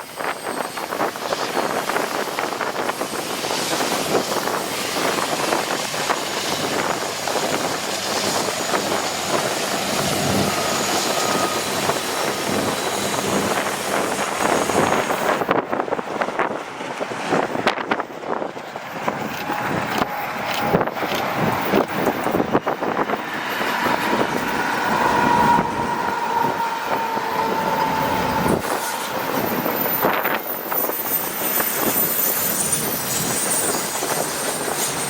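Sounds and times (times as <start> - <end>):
train rolling on rails: 0.0 - 35.0
wind on microphone: 0.0 - 35.0.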